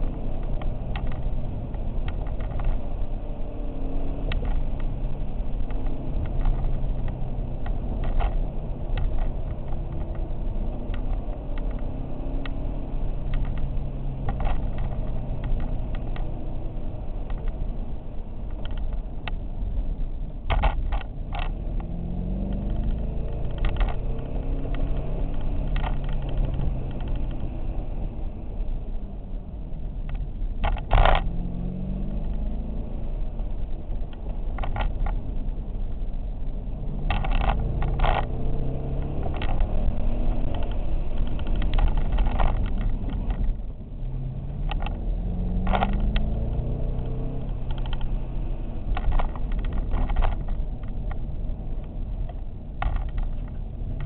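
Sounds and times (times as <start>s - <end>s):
car engine accelerating: 0.0s - 54.0s
knocks and rattles: 0.3s - 17.9s, 18.5s - 27.8s, 33.8s - 54.0s.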